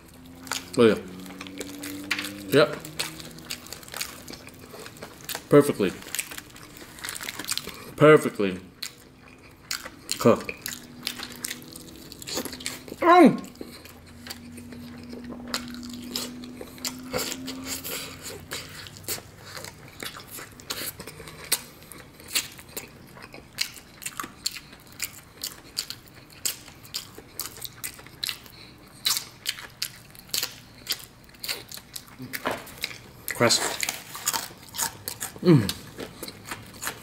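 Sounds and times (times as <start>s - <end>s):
crunching fried chicken: 0.0s - 37.0s
low steady hum: 0.0s - 37.0s.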